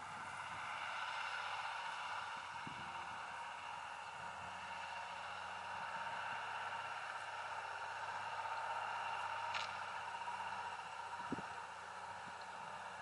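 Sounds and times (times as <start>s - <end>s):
distant truck engine: 0.0s - 13.0s.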